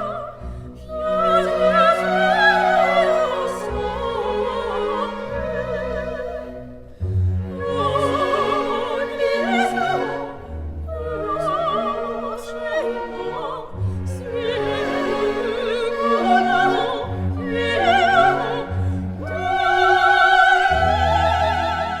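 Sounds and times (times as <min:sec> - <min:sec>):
operatic singing with vibrato: 0:00.0 - 0:22.0
orchestral accompaniment: 0:00.0 - 0:22.0.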